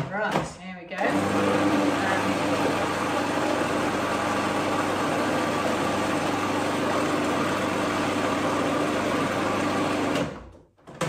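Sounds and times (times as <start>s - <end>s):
food processor running: 1.0s - 10.5s.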